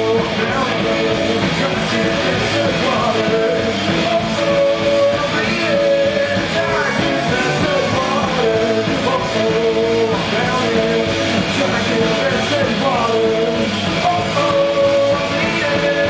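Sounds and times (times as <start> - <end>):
electric guitars: 0.0 - 16.0
man singing: 0.0 - 16.0.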